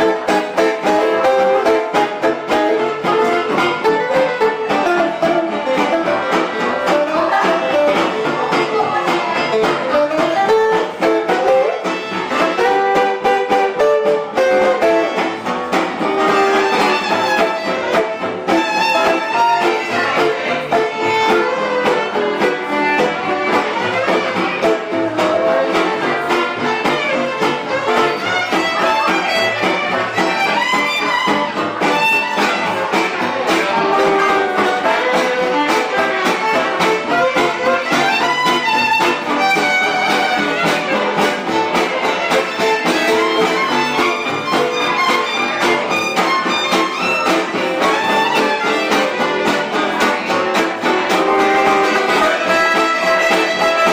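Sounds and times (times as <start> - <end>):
guitar: 0.0 - 53.9
live band playing: 0.0 - 53.9
violin: 0.0 - 53.9.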